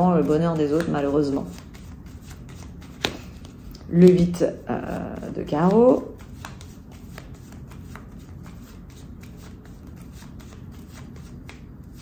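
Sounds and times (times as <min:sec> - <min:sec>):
playing cards being shuffled: 0:00.0 - 0:12.0.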